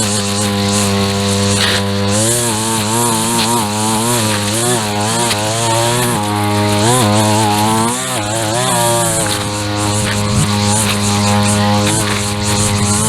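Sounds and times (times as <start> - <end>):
steady high hiss: 0.0 - 13.0
string trimmer engine: 0.0 - 13.0.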